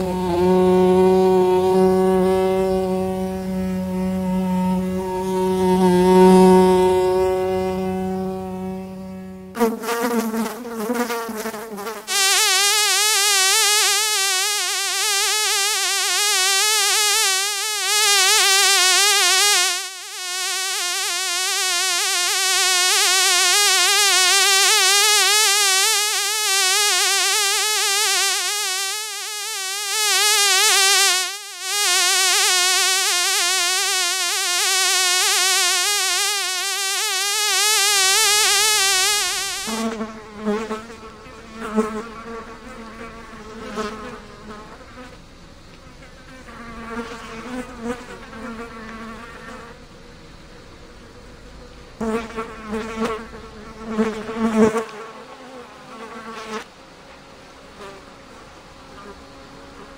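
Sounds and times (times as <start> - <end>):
fly wings buzzing: 0.0 - 45.2, 46.0 - 49.8, 52.0 - 56.7
lower buzzing in short bursts: 0.0 - 49.8.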